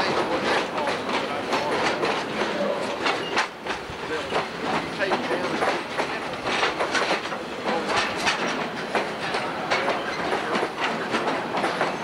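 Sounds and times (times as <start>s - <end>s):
clanks from train cars: 0.0s - 12.0s
train rumble: 0.0s - 12.0s
train wheels clicking on rails: 0.0s - 12.0s.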